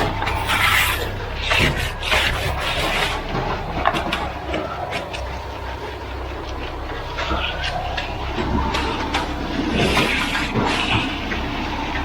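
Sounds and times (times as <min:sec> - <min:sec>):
concrete mixer truck running: 0:00.0 - 0:12.0
concrete sliding and spreading: 0:00.0 - 0:12.0.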